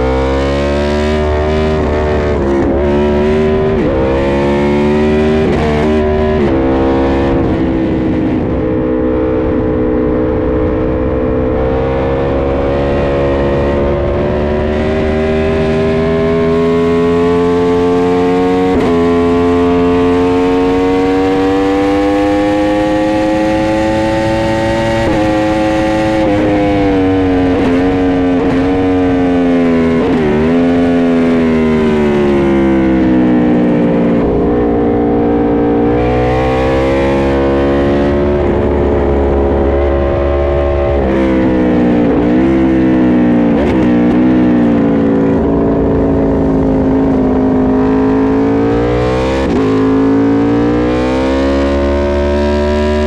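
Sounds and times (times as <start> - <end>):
motorcycle engine accelerating: 0.0 - 53.0
throttle blips on downshifts: 0.0 - 53.0
wind rumble: 1.3 - 16.9, 23.0 - 50.5.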